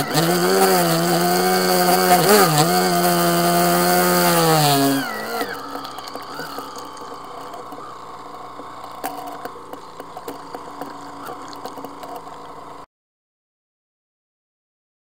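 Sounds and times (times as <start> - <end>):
outboard motor running: 0.0 - 12.8.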